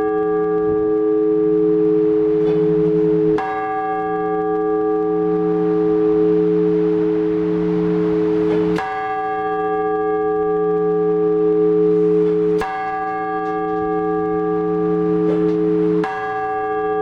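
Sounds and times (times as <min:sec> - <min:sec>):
church bell ringing: 0:00.0 - 0:17.0.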